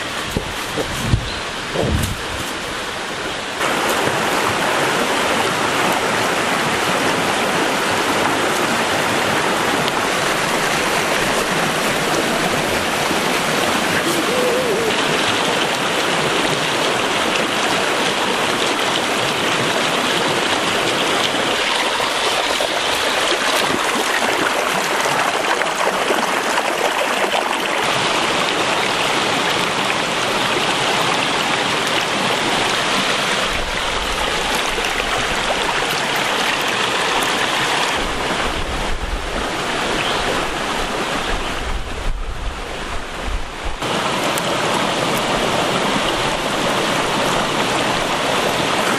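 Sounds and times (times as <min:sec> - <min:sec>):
flowing water rushing: 0:00.0 - 0:48.9.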